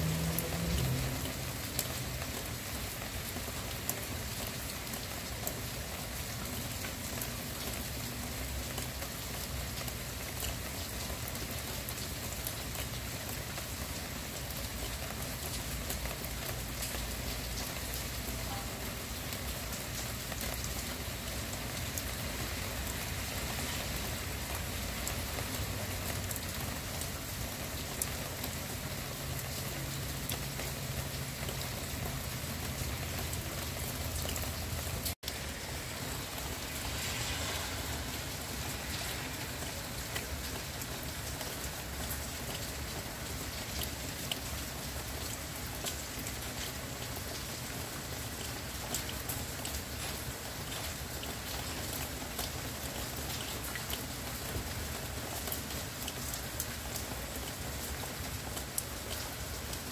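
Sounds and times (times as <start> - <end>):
gentle rain falling: 0.0 - 59.9.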